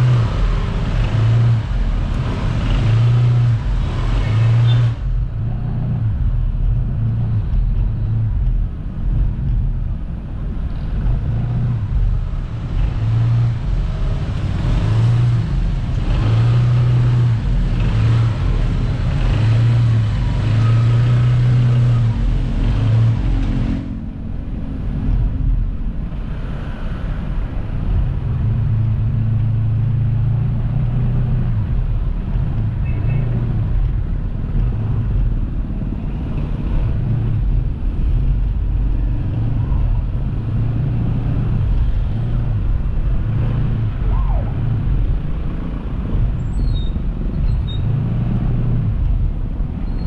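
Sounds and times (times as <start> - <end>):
constant rushing noise: 0.0 - 50.0.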